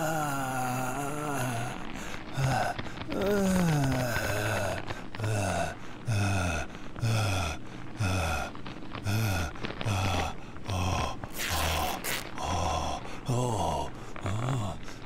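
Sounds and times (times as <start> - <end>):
man groaning: 0.0 - 1.8, 2.4 - 15.0
breathy rush: 0.0 - 15.0.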